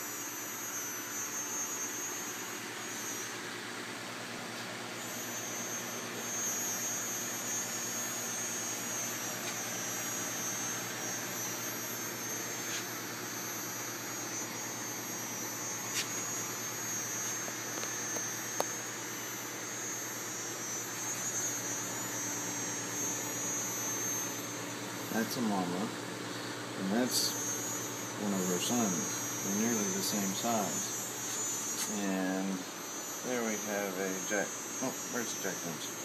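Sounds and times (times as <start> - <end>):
aquarium equipment humming: 0.0 - 36.0.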